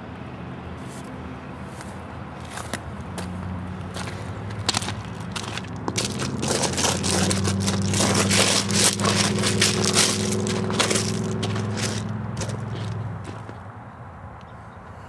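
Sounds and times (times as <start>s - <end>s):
dry vegetation crunching underfoot: 0.8s - 13.6s.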